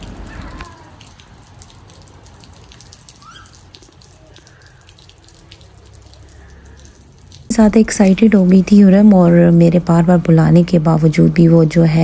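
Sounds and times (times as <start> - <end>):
water dripping and ticking: 0.0 - 12.0.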